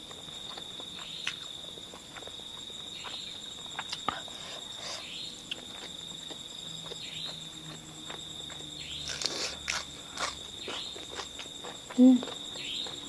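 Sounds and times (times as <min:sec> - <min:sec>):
insects trilling: 0:00.0 - 0:13.0
person chewing food: 0:00.0 - 0:13.0.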